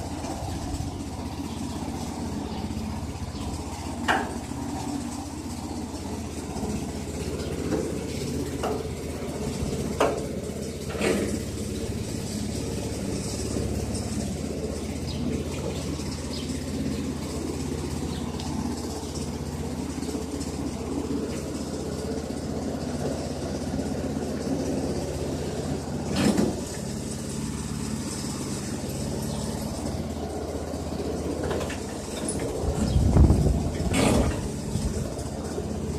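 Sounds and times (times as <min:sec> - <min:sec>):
gasoline engine running: 0:00.0 - 0:35.9.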